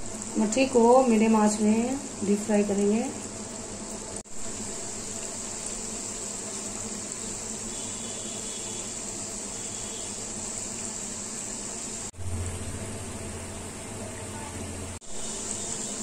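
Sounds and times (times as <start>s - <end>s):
pastries sizzling in hot oil: 0.0s - 16.0s.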